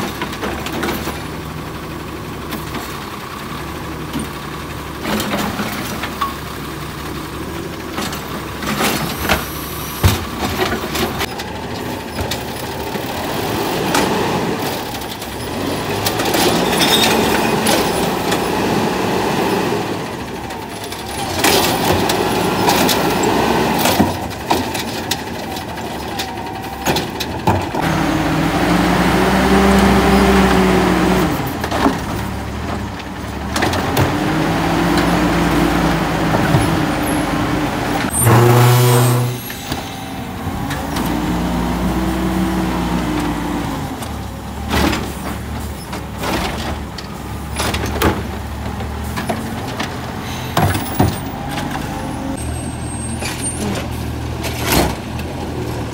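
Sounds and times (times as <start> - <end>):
garbage truck engine revving: 0.0 - 55.9.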